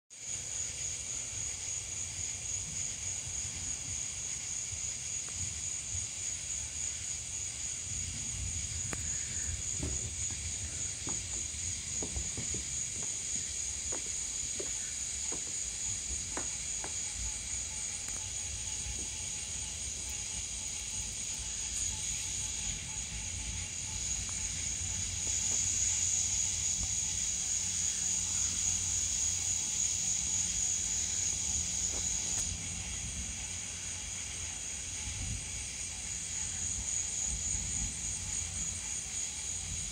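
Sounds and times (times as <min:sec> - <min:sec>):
crickets trilling: 0:00.2 - 0:39.9.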